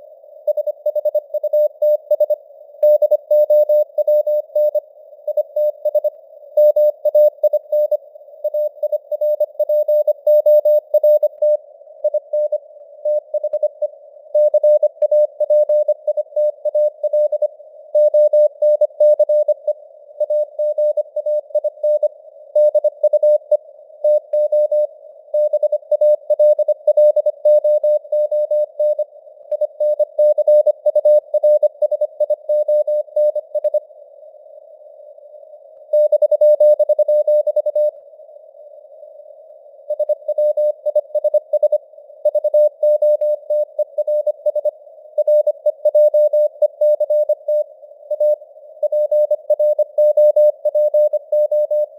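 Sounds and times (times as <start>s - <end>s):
morse code beeps: 0.5s - 13.8s, 14.4s - 23.5s, 24.1s - 33.8s, 36.0s - 37.9s, 39.9s - 51.9s.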